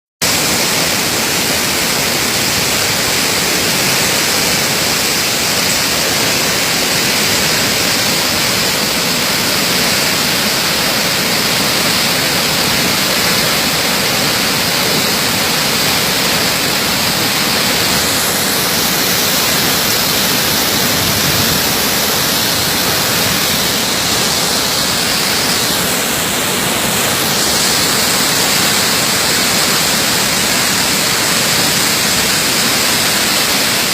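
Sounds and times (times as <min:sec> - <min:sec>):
waterfall rushing: 0:00.2 - 0:33.9.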